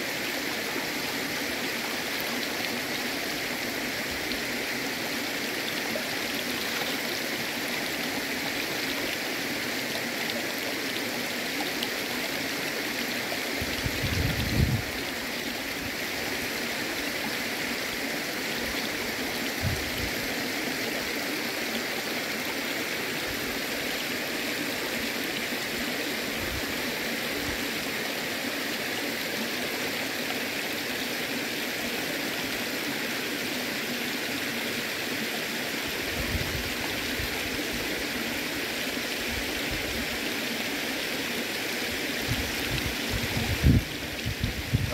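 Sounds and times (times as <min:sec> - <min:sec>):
shallow river over rocks: 0:00.0 - 0:44.9.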